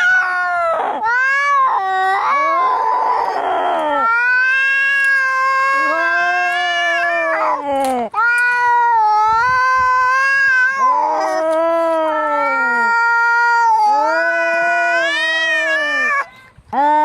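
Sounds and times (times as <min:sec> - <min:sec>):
cats yowling: 0:00.0 - 0:16.3.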